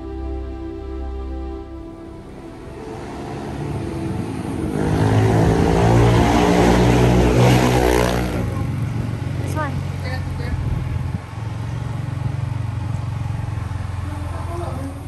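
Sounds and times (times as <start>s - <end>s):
small motorbike engine droning: 0.0s - 15.0s.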